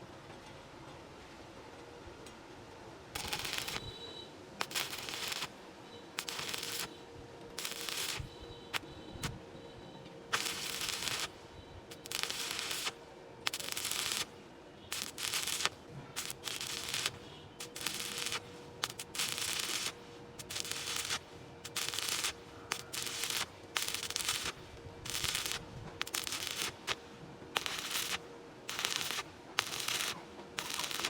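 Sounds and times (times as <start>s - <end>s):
welding arc crackling and sizzling: 3.2s - 4.0s, 4.6s - 5.6s, 6.2s - 9.4s, 10.3s - 31.0s.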